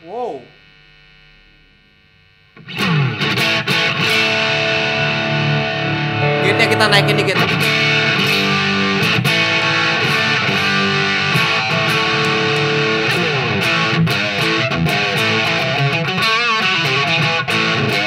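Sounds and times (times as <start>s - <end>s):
overdriven electric guitar: 2.6s - 18.0s.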